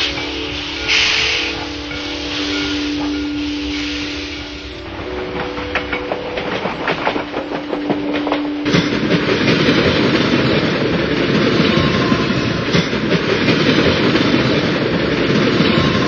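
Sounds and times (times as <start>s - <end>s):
train rattling at speed: 0.0s - 16.0s
train wheels clicking on rail joints: 0.0s - 16.0s.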